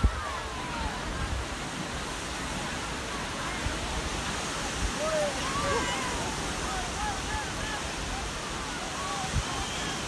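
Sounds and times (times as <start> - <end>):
small surf waves breaking: 0.0 - 10.0
wind on microphone: 0.0 - 10.0.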